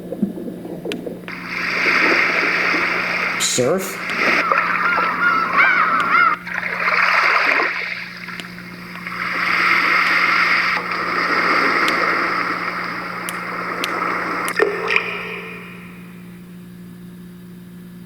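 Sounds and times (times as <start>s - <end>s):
recorded ocean waves: 0.0s - 16.8s
steady low hum: 0.0s - 18.0s.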